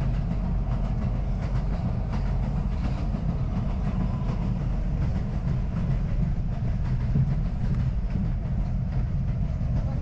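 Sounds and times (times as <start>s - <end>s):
subway train rumble: 0.0s - 10.0s
wheels clicking over rail joints: 0.0s - 10.0s.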